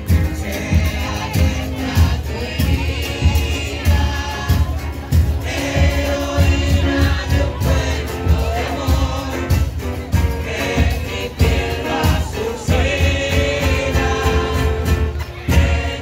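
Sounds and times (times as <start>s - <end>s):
choir of voices singing: 0.0s - 16.0s.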